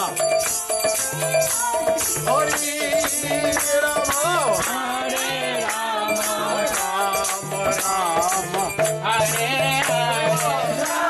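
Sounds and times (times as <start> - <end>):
jingling metallic percussion: 0.0 - 11.0
voices singing a chant: 0.7 - 11.0.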